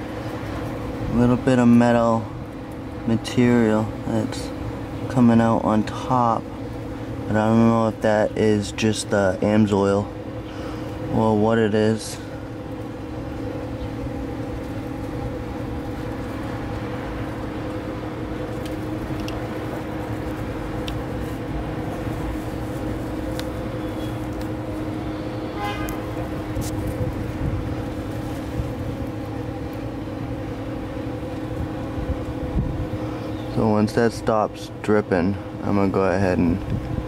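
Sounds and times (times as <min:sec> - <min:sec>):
motor hum: 0:00.0 - 0:37.0.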